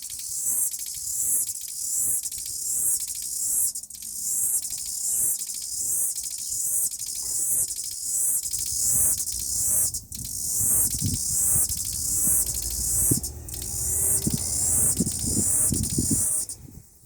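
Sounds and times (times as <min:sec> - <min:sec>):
cicada buzzing song: 0:00.0 - 0:17.0.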